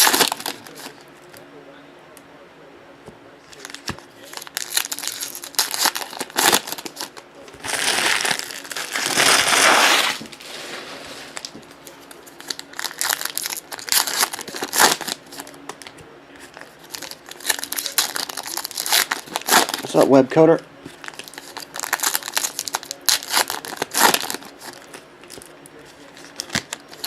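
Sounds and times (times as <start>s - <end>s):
plastic wrappers crinkling: 0.0s - 1.0s, 3.5s - 20.2s, 20.9s - 27.0s.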